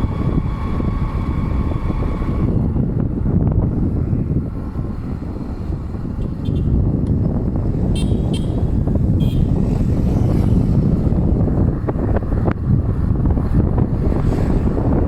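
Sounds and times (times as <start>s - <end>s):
motorcycle engine rumble: 0.0s - 15.0s
road noise: 0.0s - 15.0s
wind buffeting microphone: 0.0s - 15.0s.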